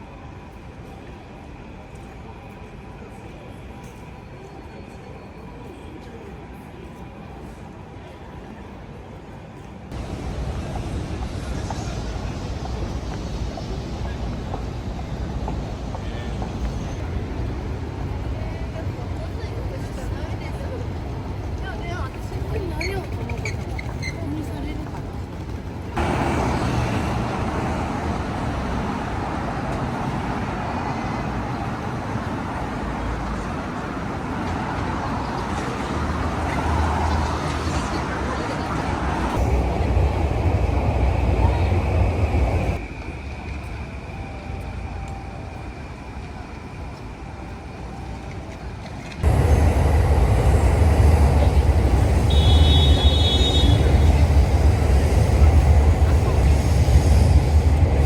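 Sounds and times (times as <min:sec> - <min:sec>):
city traffic rumble: 0:00.0 - 0:58.0.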